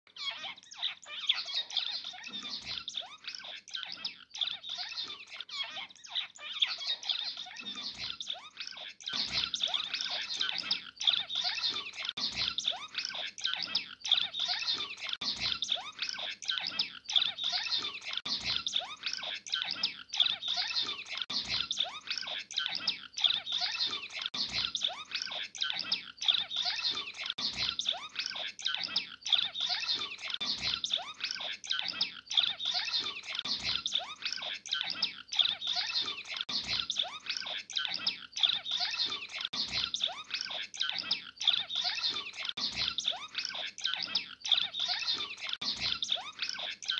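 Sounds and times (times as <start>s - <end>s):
finch chirping and twittering: 0.1s - 46.9s.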